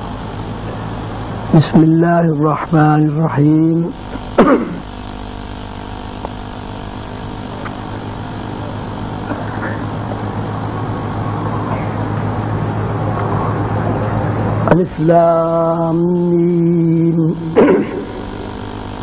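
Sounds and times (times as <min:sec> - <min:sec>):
low hum with hiss: 0:00.0 - 0:19.0.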